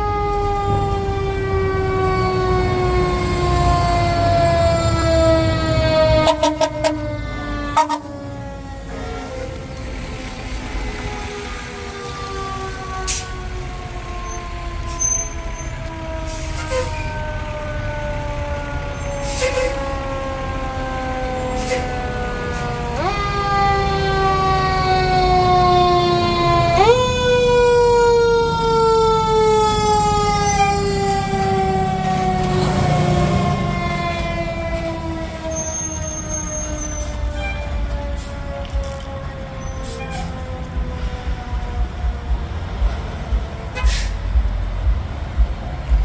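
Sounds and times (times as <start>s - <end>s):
mechanical siren: 0.0s - 42.9s
truck engine rumble: 0.0s - 46.0s.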